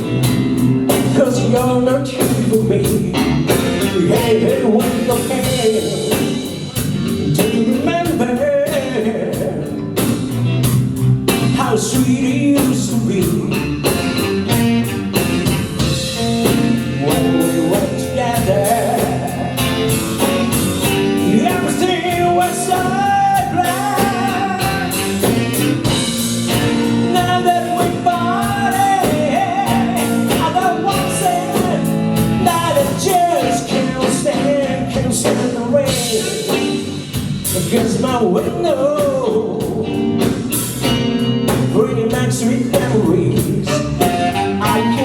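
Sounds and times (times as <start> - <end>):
bending guitar lead line: 0.0 - 38.1, 38.8 - 45.0
blues rock band playing: 0.0 - 45.0.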